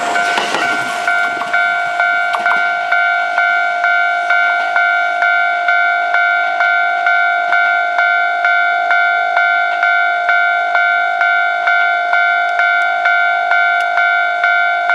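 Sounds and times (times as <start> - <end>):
level crossing bell clanging: 0.0 - 14.9.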